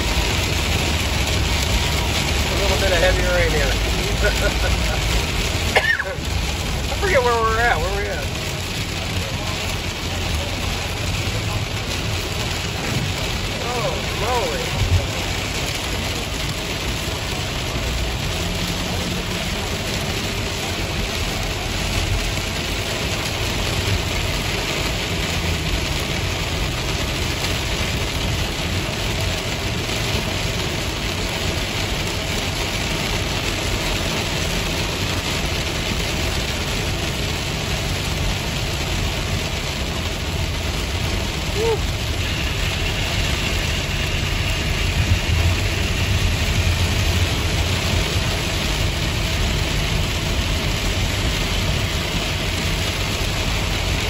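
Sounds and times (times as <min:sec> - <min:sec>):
heavy rain on car roof: 0:00.0 - 0:54.0
tyres and engine rumble: 0:00.0 - 0:54.0.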